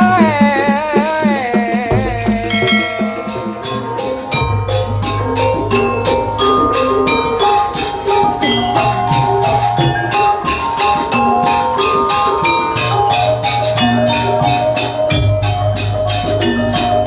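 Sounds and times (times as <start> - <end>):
sharp percussion strikes: 0.0 - 17.0
wavering melody line: 0.0 - 17.0.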